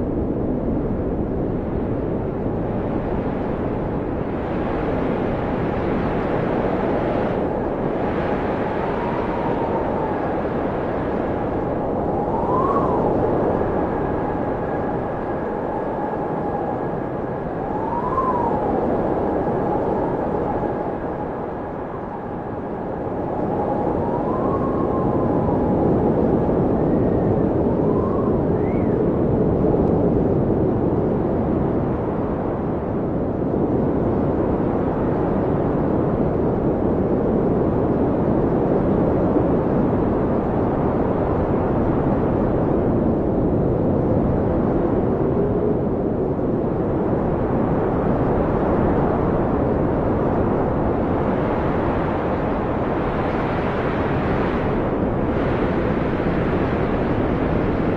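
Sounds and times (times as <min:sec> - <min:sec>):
blizzard wind rushing: 0:00.0 - 0:57.9
howling wind whistles: 0:00.0 - 0:57.9.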